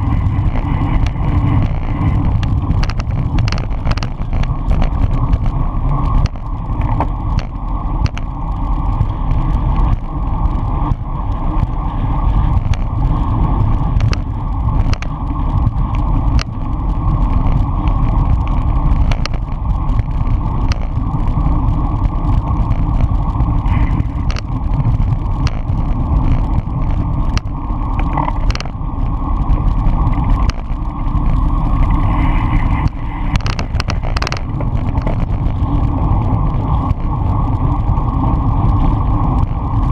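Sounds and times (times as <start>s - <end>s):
bike clicks and knocks: 0.0s - 11.8s, 12.4s - 28.8s, 29.4s - 31.3s, 32.7s - 38.3s
road vibration: 0.0s - 39.9s
wind rumble: 0.0s - 39.9s.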